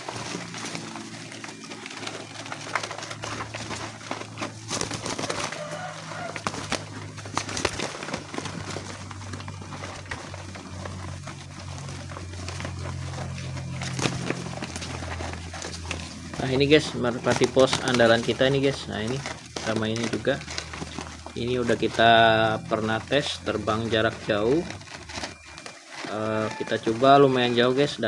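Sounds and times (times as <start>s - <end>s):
clicks and rustles of birds moving: 0.0s - 28.0s
pigeons cooing: 0.0s - 28.0s.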